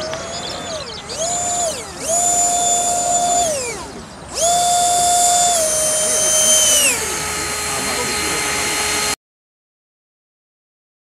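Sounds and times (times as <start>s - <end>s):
electric ducted fan whining: 0.0s - 9.2s.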